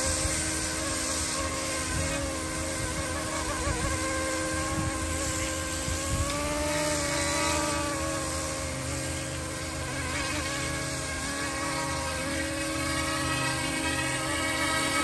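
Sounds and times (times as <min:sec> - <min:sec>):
toy helicopter rotor buzzing: 0:00.0 - 0:15.0.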